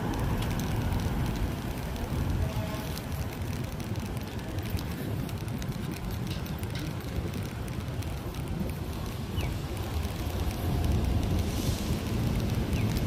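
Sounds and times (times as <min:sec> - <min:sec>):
city street traffic: 0:00.0 - 0:13.0
wind rumbling on microphone: 0:00.0 - 0:13.0.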